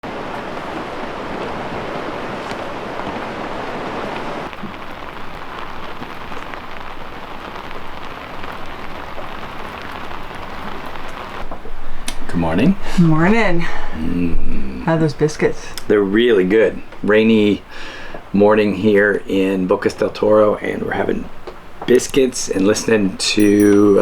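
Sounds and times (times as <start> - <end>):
heavy rain pouring: 0.0 - 24.0
raindrops ticking: 0.0 - 24.0.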